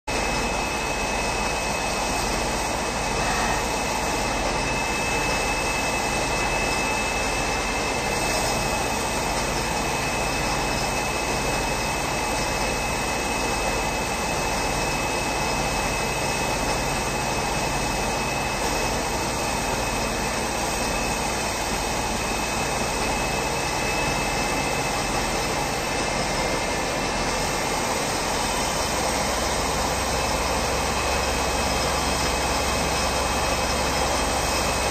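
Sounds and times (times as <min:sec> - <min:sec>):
metal lathe running with whine: 0:00.1 - 0:34.9.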